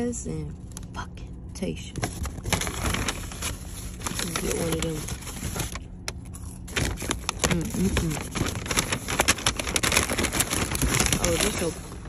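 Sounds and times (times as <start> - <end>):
paper bag rustling: 2.0 - 12.0.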